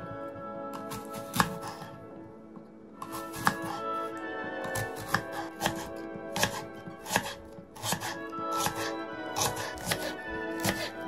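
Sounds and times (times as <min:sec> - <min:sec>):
knife cutting apple: 0:00.8 - 0:02.0, 0:03.0 - 0:11.0.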